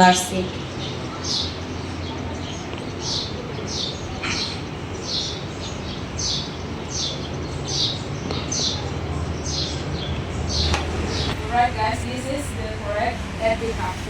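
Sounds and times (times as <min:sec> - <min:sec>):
bird chirping: 0:00.0 - 0:14.0
low steady hum: 0:00.0 - 0:14.0.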